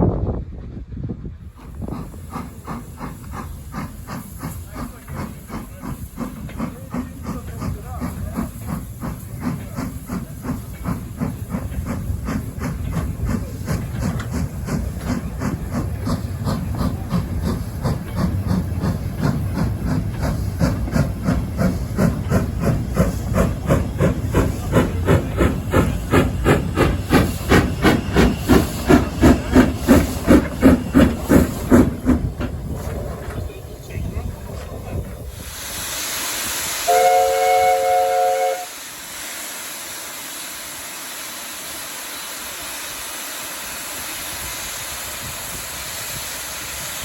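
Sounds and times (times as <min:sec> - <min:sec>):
steam locomotive exhaust chuffing: 0:00.4 - 0:47.0
steam hiss: 0:01.4 - 0:47.0.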